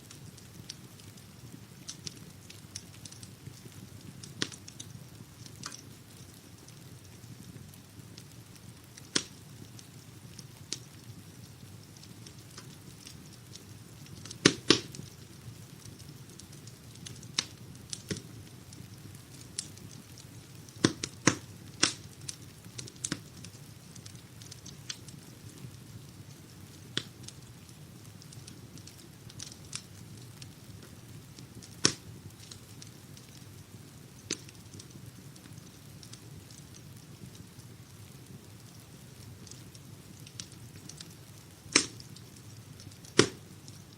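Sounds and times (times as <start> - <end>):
fire popping: 0.0 - 43.9
wood fire crackling: 0.0 - 43.9.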